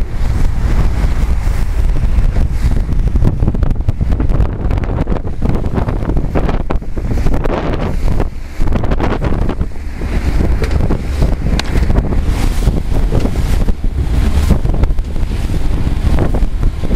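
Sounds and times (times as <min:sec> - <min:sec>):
water rushing and splashing: 0:00.0 - 0:16.9
wind buffeting microphone: 0:00.0 - 0:16.9.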